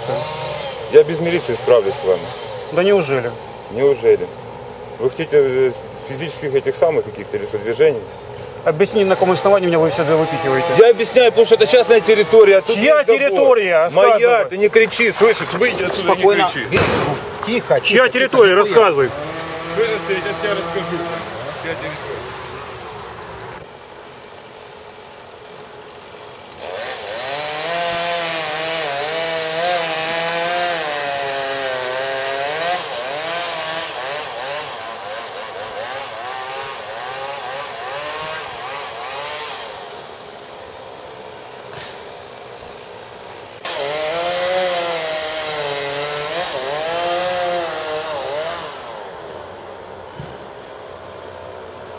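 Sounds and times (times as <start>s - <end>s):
chainsaw running: 0.0s - 51.9s.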